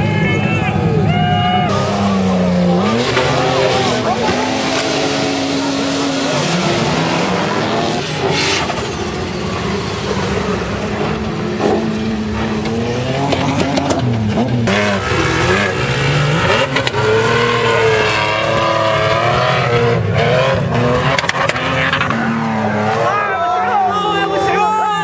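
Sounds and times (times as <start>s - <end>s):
engines revving: 0.0s - 25.0s.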